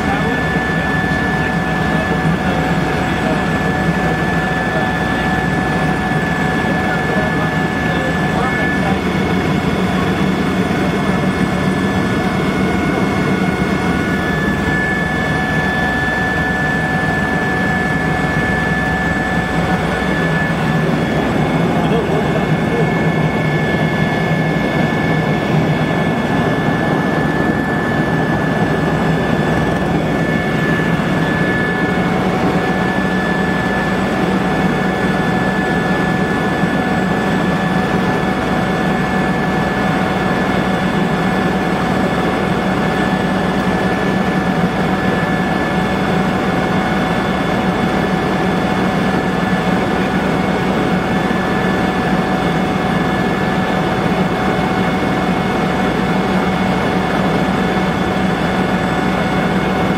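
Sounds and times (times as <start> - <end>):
helicopter cabin drone and whine: 0.0 - 59.9
low whine: 0.0 - 59.9.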